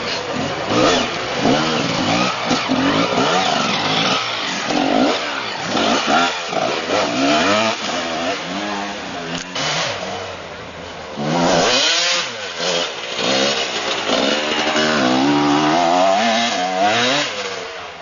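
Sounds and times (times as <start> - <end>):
dirt bike engine revving: 0.0 - 10.4, 11.1 - 18.0.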